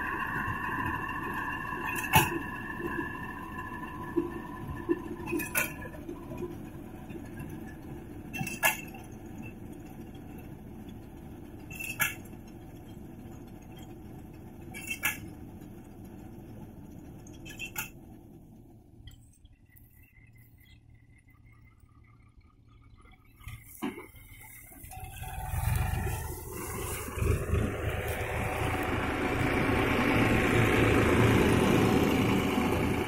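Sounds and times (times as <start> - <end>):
tractor engine drone: 0.0 - 33.0.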